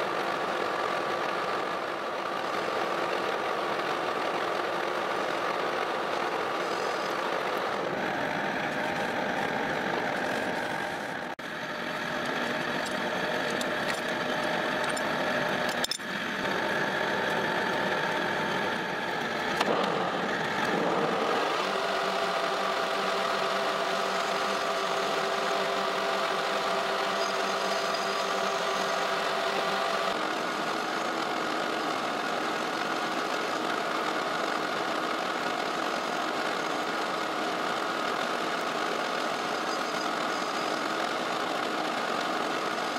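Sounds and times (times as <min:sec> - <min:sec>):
metal lathe whining: 0:00.0 - 0:42.9.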